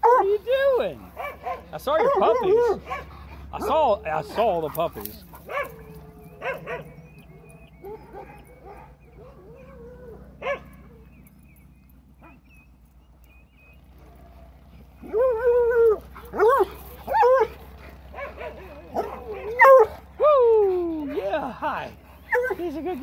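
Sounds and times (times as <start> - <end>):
dog howling: 0.0 - 11.3, 14.0 - 23.0
dogs whining and yipping: 0.0 - 23.0.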